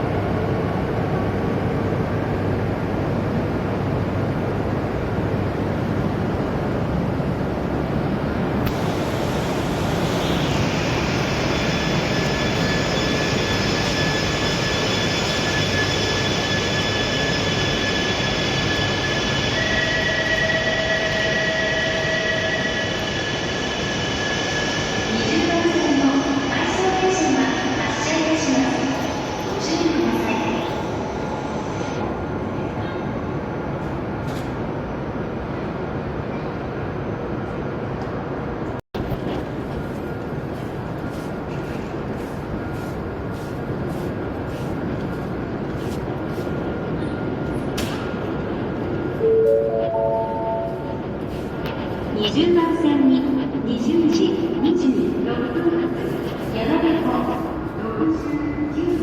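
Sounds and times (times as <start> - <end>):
train rushing: 0.0 - 59.0.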